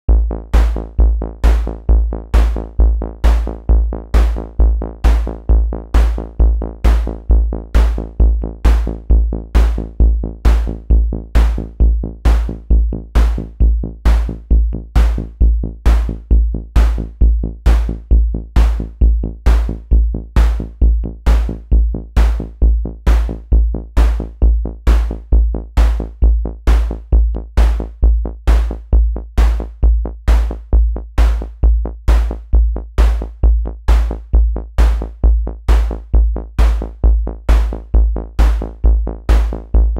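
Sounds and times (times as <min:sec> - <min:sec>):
deep bass thump: 0:00.1 - 0:39.9.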